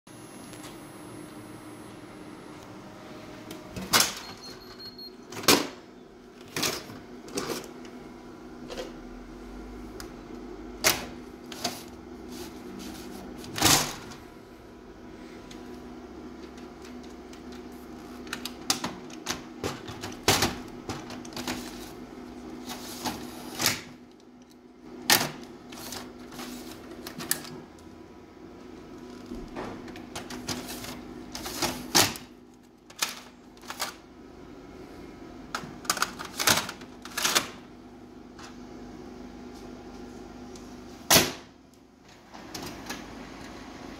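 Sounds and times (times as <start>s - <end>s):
copier low hum: 0.1s - 43.9s.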